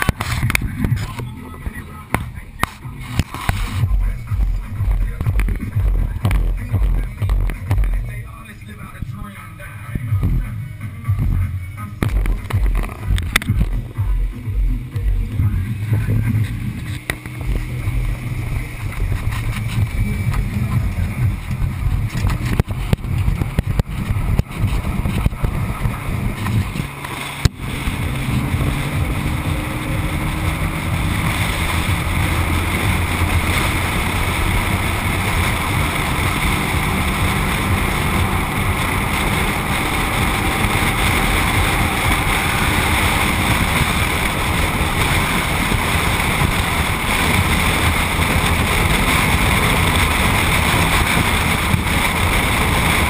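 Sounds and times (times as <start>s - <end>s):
wind buffeting camera: 0.0s - 8.2s, 8.9s - 53.0s
tyre and road noise: 0.0s - 53.0s.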